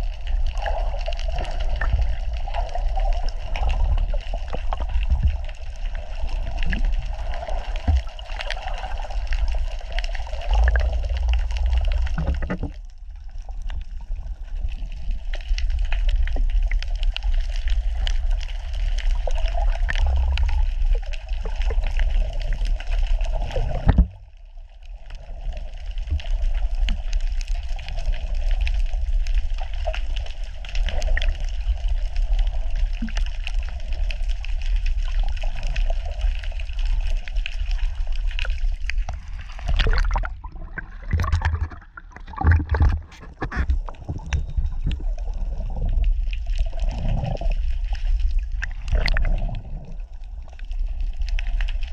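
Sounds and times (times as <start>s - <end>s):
muffled underwater rush of water: 0.0s - 51.9s
underwater crackles and clicks: 0.0s - 51.9s.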